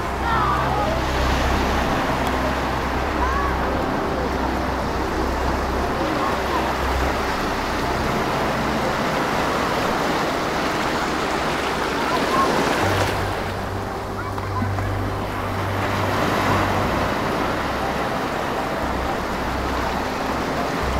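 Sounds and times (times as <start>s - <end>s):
ocean waves breaking on beach: 0.0s - 20.9s.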